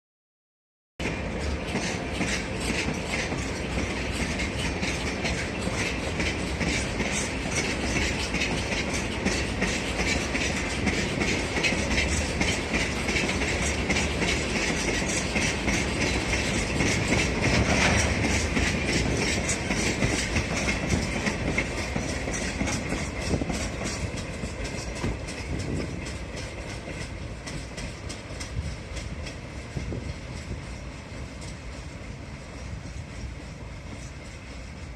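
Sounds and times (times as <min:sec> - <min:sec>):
wheels clicking over rail joints: 0:01.0 - 0:34.9.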